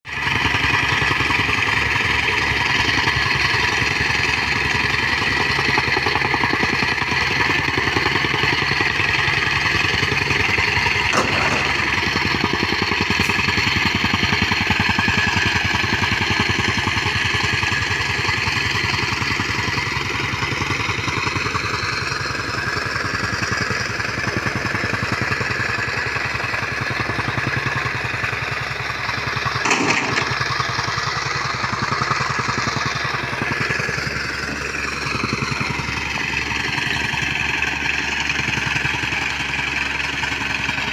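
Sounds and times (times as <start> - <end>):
small petrol engine running: 0.1 - 40.9.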